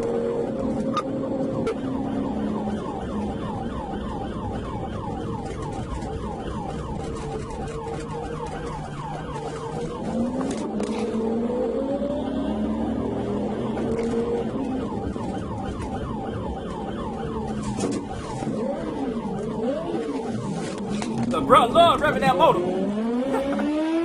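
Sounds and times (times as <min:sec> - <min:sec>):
police siren yelping: 0:00.2 - 0:20.1, 0:21.3 - 0:24.0.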